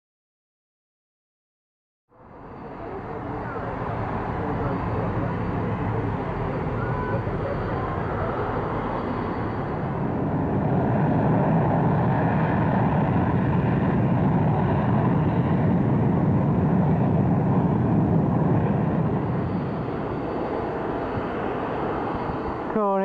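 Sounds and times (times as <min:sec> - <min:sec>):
jets taking off: 0:02.3 - 0:23.0.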